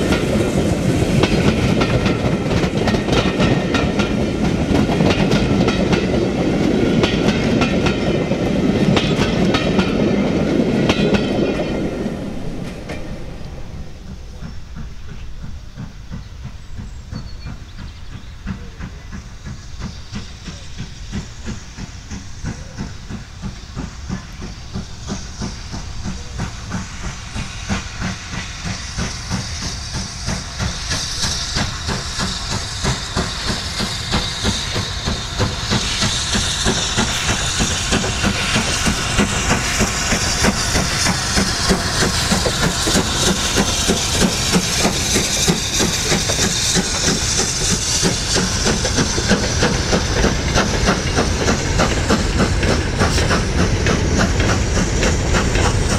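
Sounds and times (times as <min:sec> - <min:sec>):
steam locomotive exhaust beats: 0:00.0 - 0:55.9.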